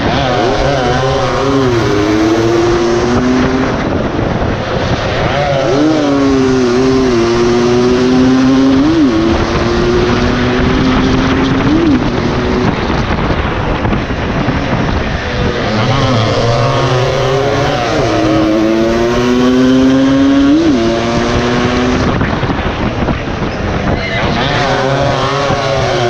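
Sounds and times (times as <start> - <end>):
motorcycle engine racing: 0.0 - 26.0
second engine: 0.0 - 26.0.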